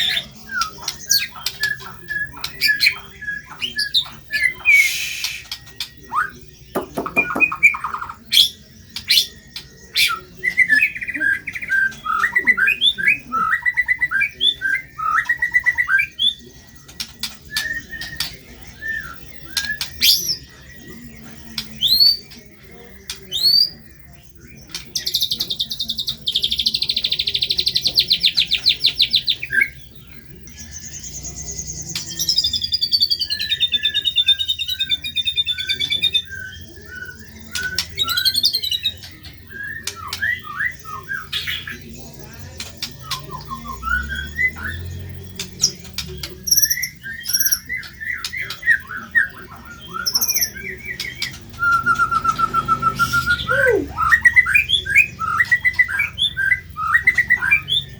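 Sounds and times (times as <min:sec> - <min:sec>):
fast buzzy bird trill: 0:00.0 - 0:20.5, 0:23.3 - 0:57.9
bird singing whistled notes and clicks: 0:00.0 - 0:57.9.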